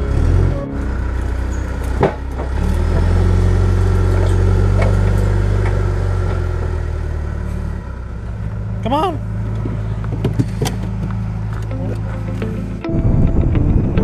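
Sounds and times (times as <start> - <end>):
diesel engine under load: 0.0 - 13.2.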